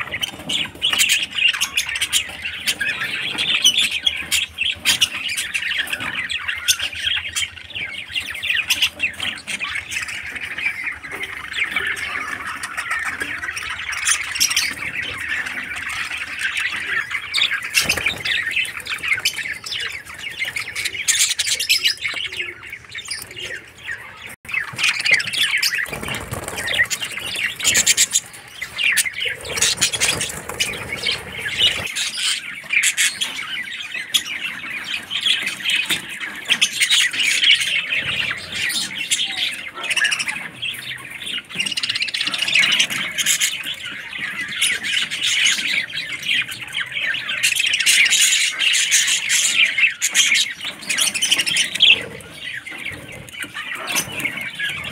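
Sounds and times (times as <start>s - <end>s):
budgerigars chattering and chirping: 0.0s - 54.9s.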